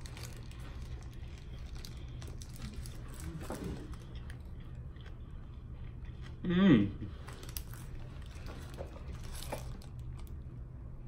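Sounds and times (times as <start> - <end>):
person chewing: 0.0 - 10.2
low steady hum: 0.0 - 11.0.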